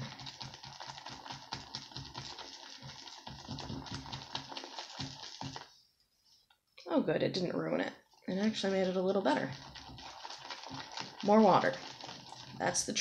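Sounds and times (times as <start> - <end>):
shaving brush squishing lather: 0.0 - 5.8, 8.3 - 13.0.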